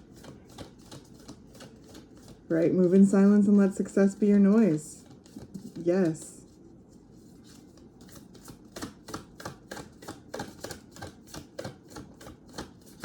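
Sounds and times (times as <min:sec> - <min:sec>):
cards being shuffled: 0:00.1 - 0:03.1, 0:04.5 - 0:06.3, 0:07.2 - 0:13.0.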